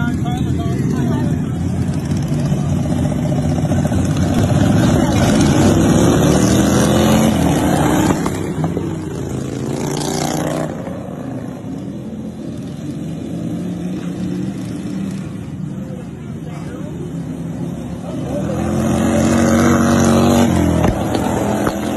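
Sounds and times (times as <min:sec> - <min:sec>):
racing lawn mower engines: 0:00.0 - 0:21.9.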